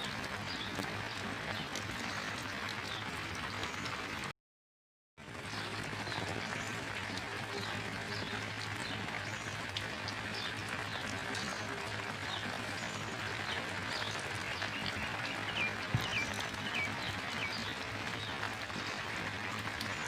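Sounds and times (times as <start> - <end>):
steady rain falling: 0.0 - 4.3, 5.2 - 20.0.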